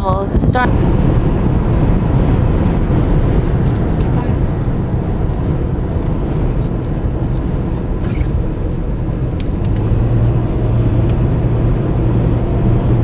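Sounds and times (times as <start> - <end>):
car engine rumble and road noise: 0.0 - 13.0.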